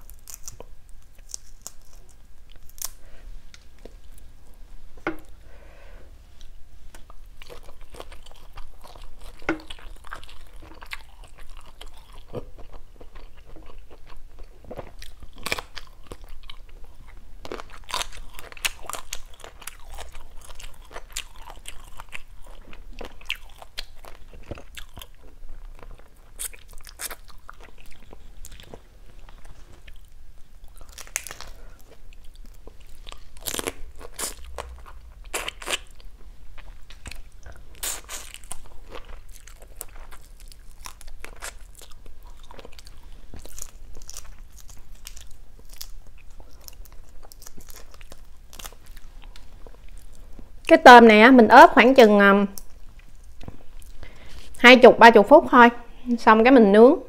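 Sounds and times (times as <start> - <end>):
chewing and crunching: 0.0 - 4.2, 6.4 - 50.5, 52.5 - 54.6.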